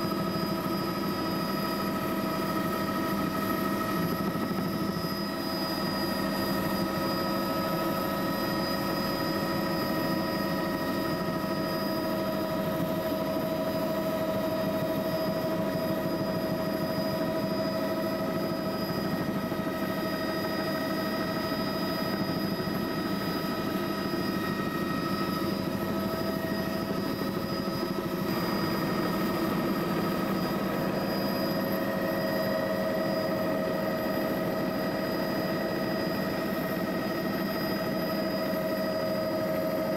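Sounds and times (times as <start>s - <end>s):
engine drone with whining tones: 0.0s - 39.9s.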